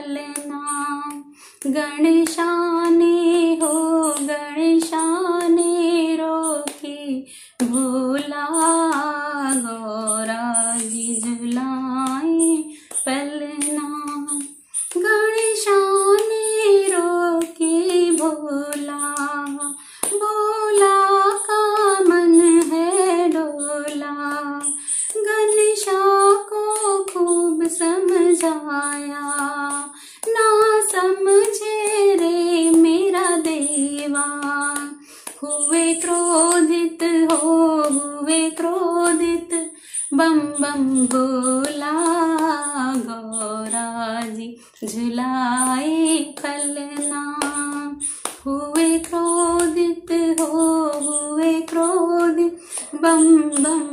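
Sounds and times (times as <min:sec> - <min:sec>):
faint high ticking beat: 0:00.0 - 0:53.9
woman singing devotional song: 0:00.0 - 0:53.9.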